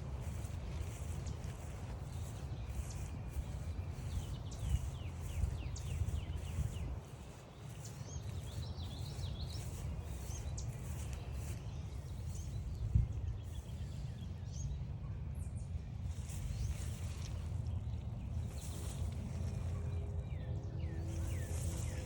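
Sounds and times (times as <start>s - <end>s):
birds chirping: 0.0s - 14.8s, 16.1s - 22.0s
steady low rumble: 0.0s - 22.0s.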